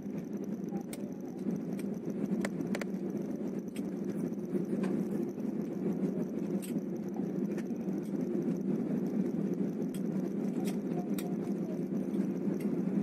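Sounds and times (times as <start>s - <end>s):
airliner rumble on runway: 0.0s - 13.0s.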